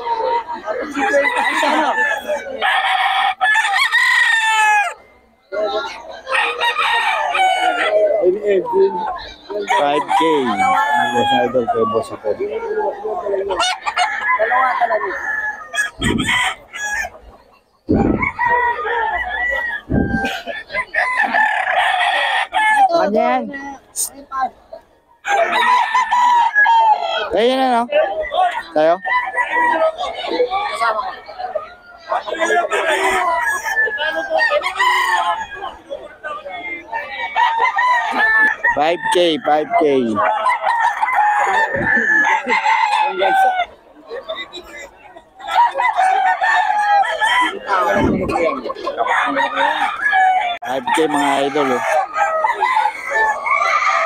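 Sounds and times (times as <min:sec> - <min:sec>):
roosters crowing: 0:00.0 - 0:23.5, 0:24.9 - 0:54.0
chickens clucking: 0:00.0 - 0:54.0.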